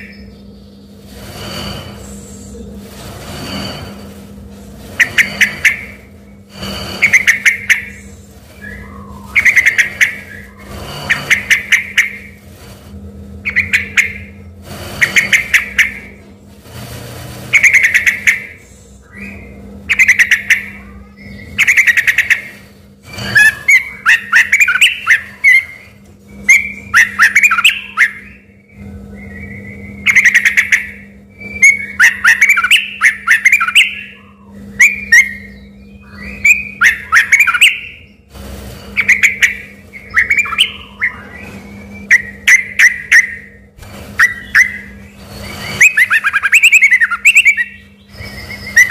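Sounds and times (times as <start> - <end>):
bulbul singing: 0.0 - 2.8, 4.9 - 12.4, 13.4 - 16.2, 17.5 - 48.9
faint steady hum: 0.0 - 48.9.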